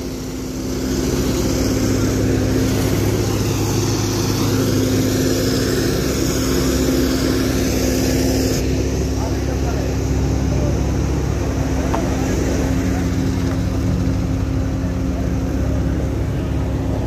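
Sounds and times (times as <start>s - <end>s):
hiss: 0.0s - 14.6s
diesel engine humming: 0.0s - 17.0s.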